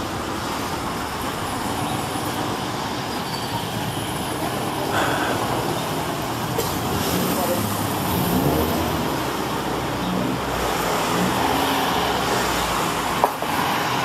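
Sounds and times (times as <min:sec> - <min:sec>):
vehicles passing close by: 0:00.0 - 0:14.0.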